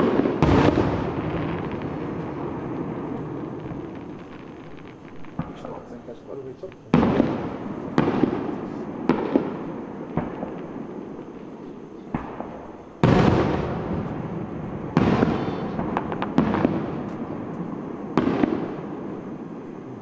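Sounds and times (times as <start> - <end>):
fireworks booming: 0.0 - 20.0.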